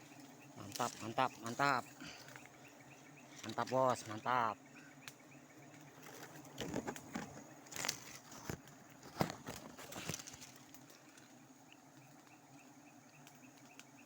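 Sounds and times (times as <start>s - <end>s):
faint insect chirp: 0.0s - 14.0s
honeybees humming: 0.0s - 14.0s.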